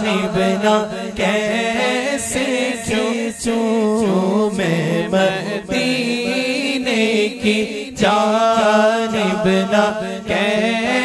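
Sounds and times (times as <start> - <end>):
men singing: 0.0 - 11.0.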